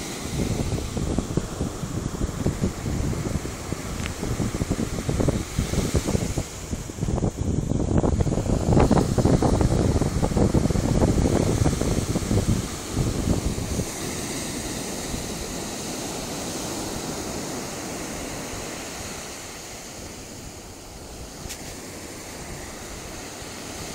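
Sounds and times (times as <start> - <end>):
ocean surf washing on beach: 0.0 - 23.9.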